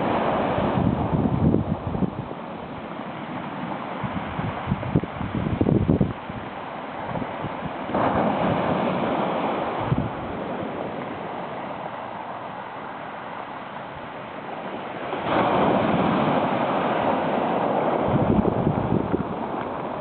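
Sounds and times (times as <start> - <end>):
waves washing up pebble beach: 0.0 - 20.0.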